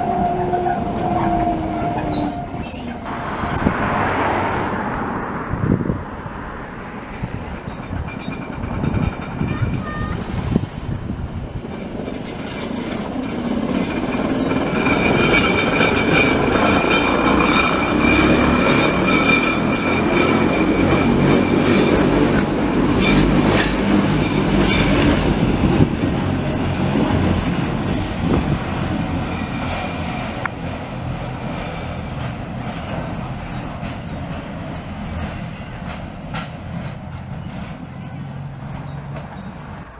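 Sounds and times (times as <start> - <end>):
wheels rumbling on track: 0.0 - 39.9.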